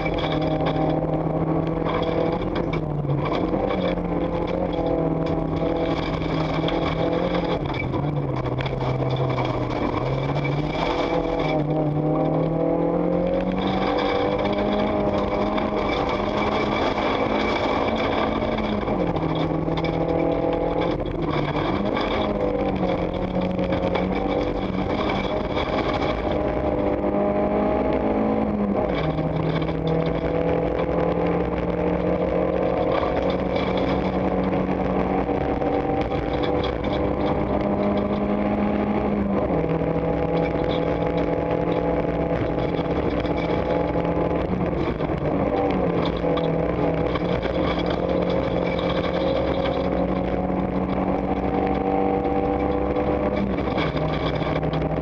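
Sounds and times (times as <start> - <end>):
gravel crunching under tyres: 0.0 - 55.0
rally car engine at full throttle: 0.0 - 55.0.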